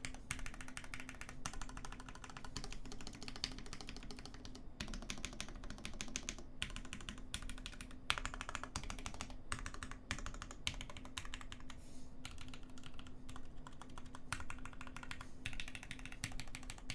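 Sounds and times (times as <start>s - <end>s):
mechanical keyboard typing: 0.0s - 16.9s.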